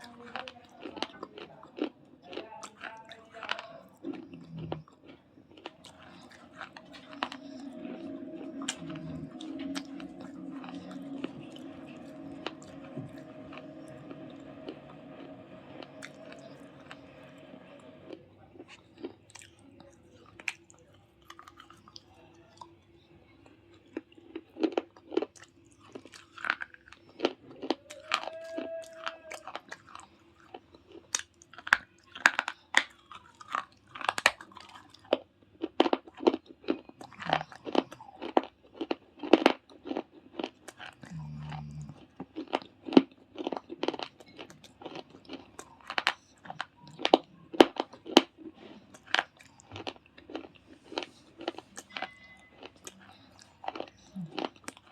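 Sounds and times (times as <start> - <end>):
crunching and chewing clay pieces: 0.0 - 54.9.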